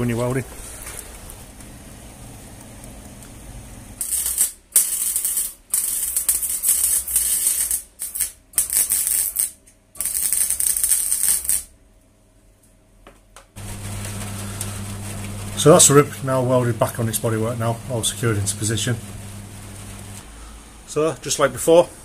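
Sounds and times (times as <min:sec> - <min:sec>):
arc welding crackling: 0:00.0 - 0:11.7, 0:13.6 - 0:20.3.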